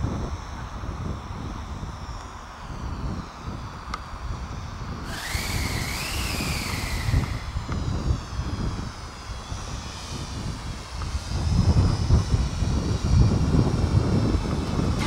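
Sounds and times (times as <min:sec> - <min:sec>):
drone motors whining: 0:00.0 - 0:15.0
wind buffeting microphone: 0:00.0 - 0:15.0.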